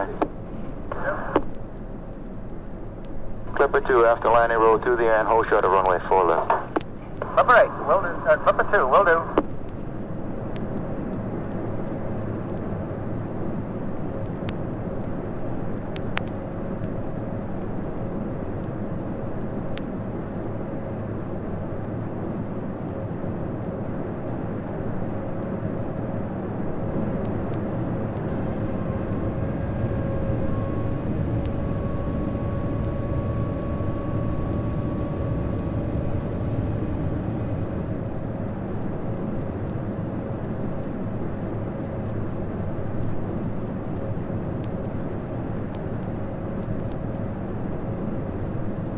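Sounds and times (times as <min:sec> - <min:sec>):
engine whine: 0:00.0 - 0:48.9
jet engine rumble and airflow: 0:00.0 - 0:48.9.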